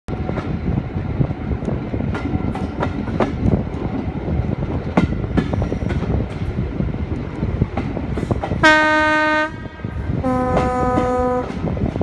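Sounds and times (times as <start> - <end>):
train rumbling: 0.1 - 12.0.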